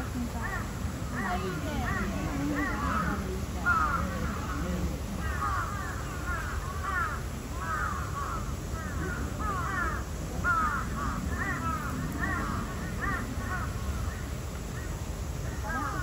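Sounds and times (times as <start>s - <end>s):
crows cawing: 0.4s - 14.9s, 15.6s - 16.0s.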